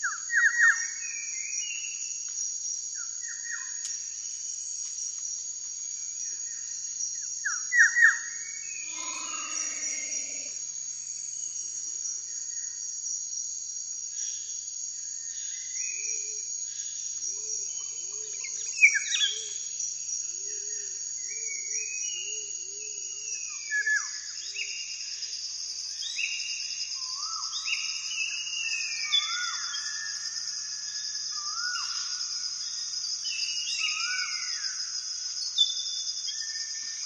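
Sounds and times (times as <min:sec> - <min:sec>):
insect chorus: 0:00.0 - 0:37.0.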